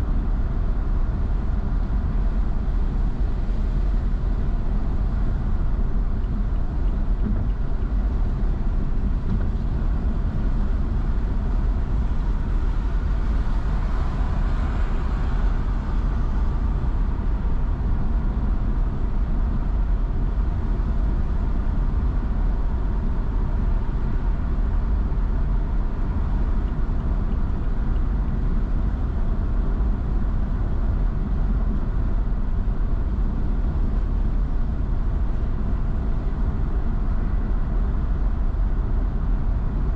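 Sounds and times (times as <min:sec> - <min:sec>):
car road noise on wet road: 0:00.0 - 0:39.9.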